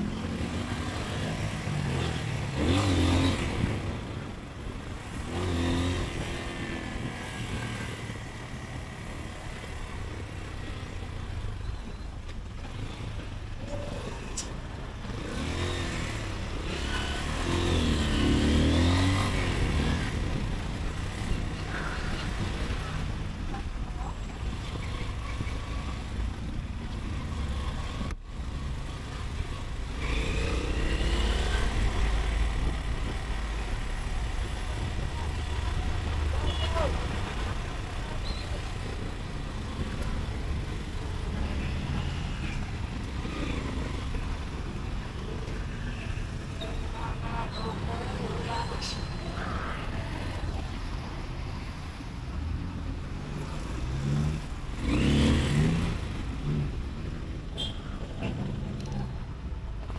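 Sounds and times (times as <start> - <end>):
motorcycle engine accelerating: 0.0 - 11.3, 12.4 - 48.6, 49.4 - 59.9
road and wind noise: 0.0 - 59.9.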